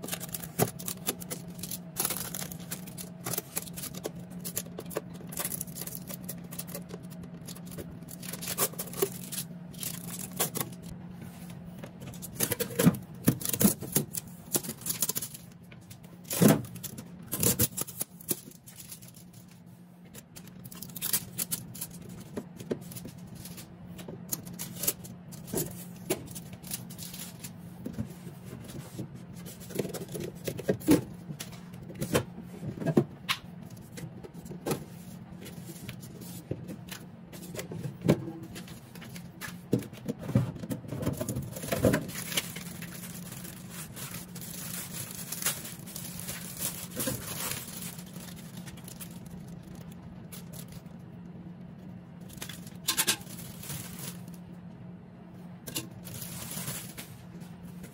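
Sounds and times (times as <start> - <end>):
plastic bag rustling: 0.0 - 15.6, 16.2 - 30.6, 38.4 - 51.0, 52.2 - 54.4, 55.7 - 57.9
refrigerator hum: 0.0 - 57.9.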